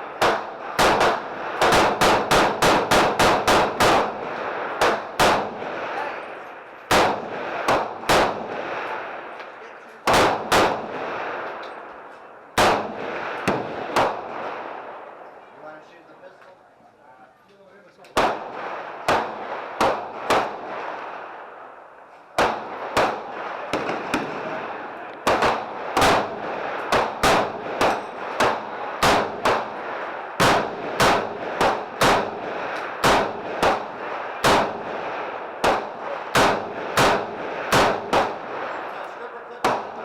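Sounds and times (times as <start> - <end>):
gunshots with echo: 0.0 - 6.2, 6.9 - 9.4, 10.0 - 11.6, 12.6 - 15.2, 18.2 - 21.8, 22.4 - 40.0.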